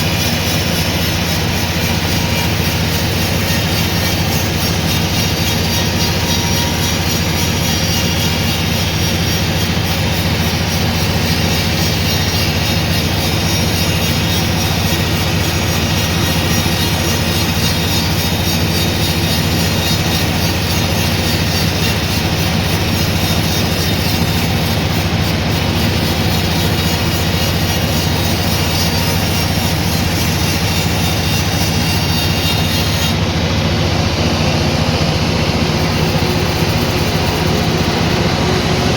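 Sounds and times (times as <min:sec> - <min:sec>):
low motor drone: 0:00.0 - 0:38.9.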